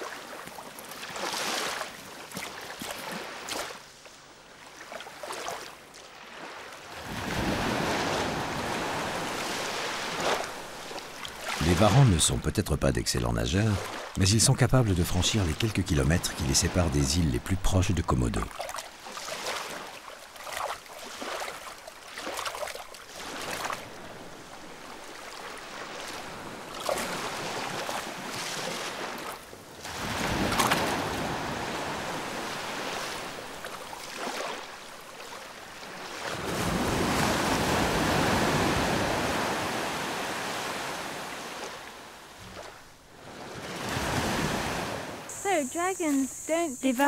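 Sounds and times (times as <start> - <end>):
sea water sloshing: 0.0 - 3.9, 4.5 - 12.5, 15.1 - 45.2.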